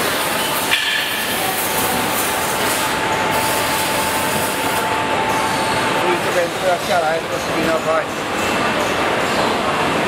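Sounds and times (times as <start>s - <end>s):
press machinery running: 0.0s - 9.2s
thin constant whine: 0.0s - 10.0s.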